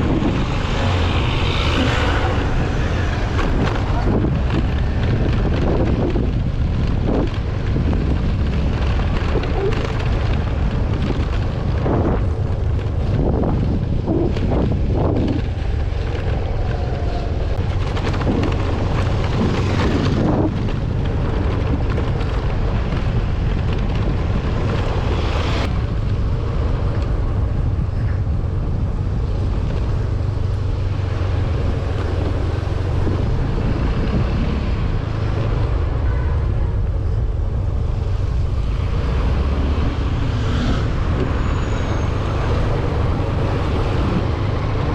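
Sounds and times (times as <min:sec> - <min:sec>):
vehicle running and road noise: 0:00.0 - 0:44.9
wind buffeting microphone: 0:00.0 - 0:44.9.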